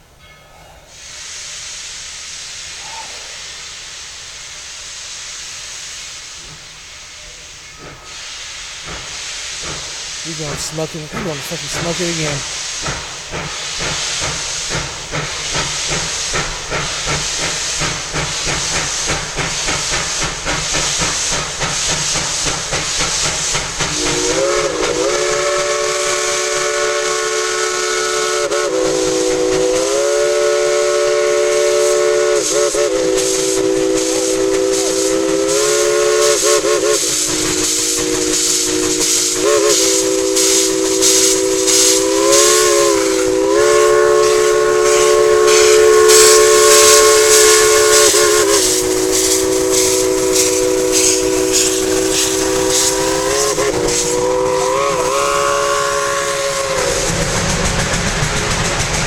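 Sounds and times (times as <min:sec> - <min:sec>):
steam locomotive exhaust chuffing: 0:00.8 - 0:59.0.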